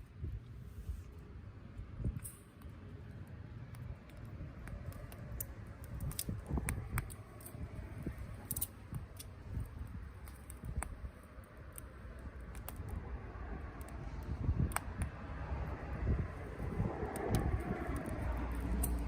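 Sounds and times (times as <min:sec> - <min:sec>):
low rumble: 0:00.0 - 0:19.0
campfire crackling and popping: 0:01.7 - 0:19.0.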